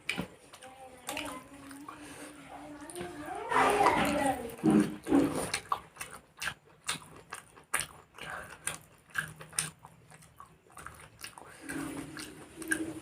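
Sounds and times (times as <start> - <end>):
chewing food with wet mouth clicks: 0.0 - 3.2, 3.9 - 13.0.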